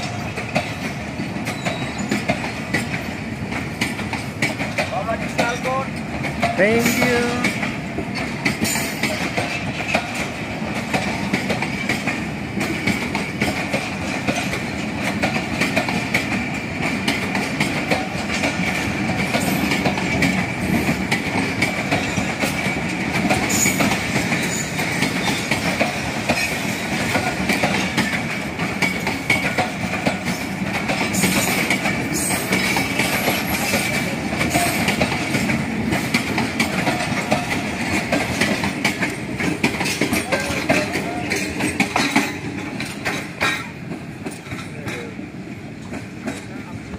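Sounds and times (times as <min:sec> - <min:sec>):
wheels clattering over rail joints: 0:00.0 - 0:46.8
train coaches rumbling past: 0:00.0 - 0:46.9.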